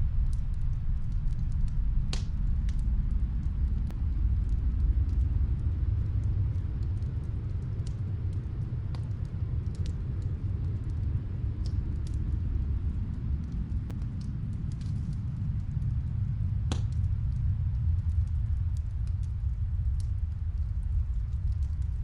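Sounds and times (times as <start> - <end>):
snowstorm wind rumble: 0.0 - 22.0
wood fire crackling: 0.0 - 22.0.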